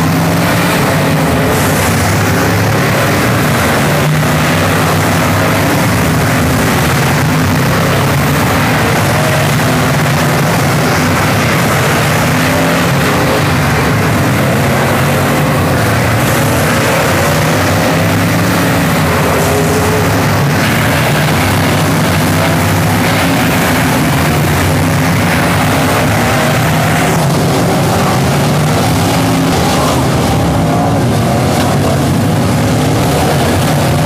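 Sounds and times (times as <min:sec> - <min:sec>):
race car engines droning: 0:00.0 - 0:34.0.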